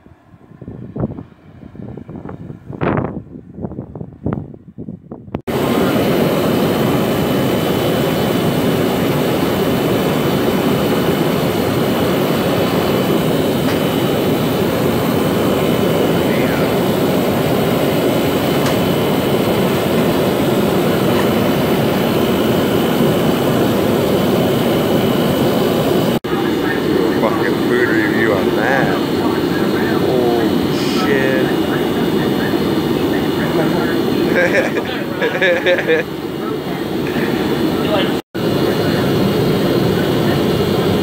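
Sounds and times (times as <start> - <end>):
heater burner and fan roar: 0.0 - 4.6, 5.3 - 41.0
thin high whine: 5.6 - 41.0.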